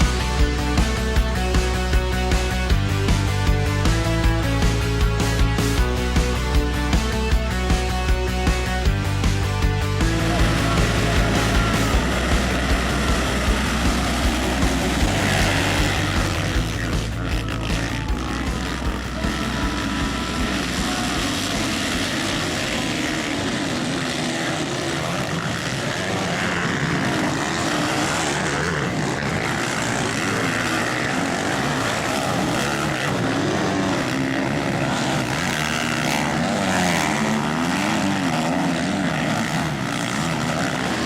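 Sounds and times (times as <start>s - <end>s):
motocross bike engines revving: 0.0s - 41.0s.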